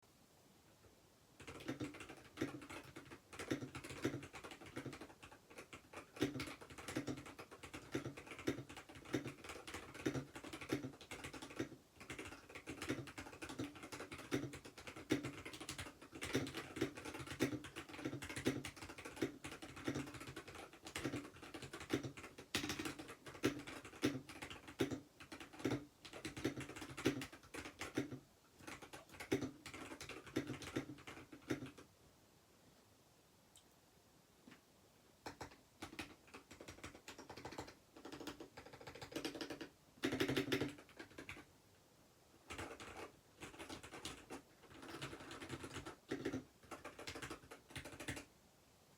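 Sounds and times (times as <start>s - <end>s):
mechanical keyboard typing: 1.4s - 31.9s, 35.2s - 41.5s, 42.4s - 48.3s.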